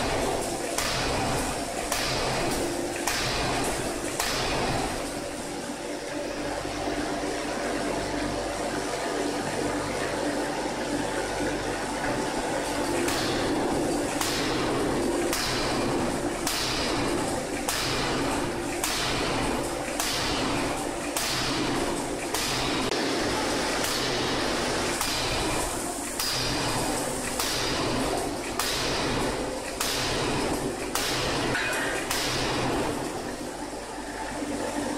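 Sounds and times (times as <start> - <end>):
machinery hum and hiss: 0.0 - 34.9.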